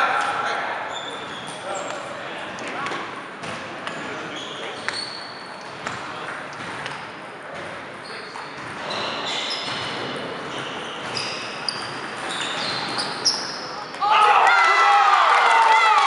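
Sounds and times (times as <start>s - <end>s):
sneakers squeaking on floor: 0.8s - 14.0s.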